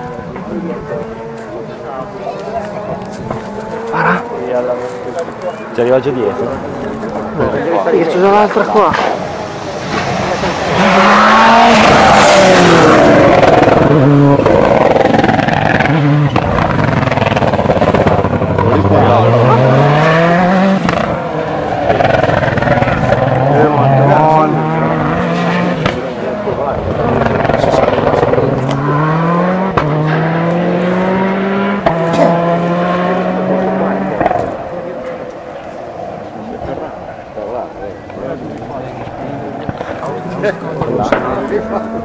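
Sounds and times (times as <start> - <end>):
rally car engine at high revs: 0.0 - 42.0.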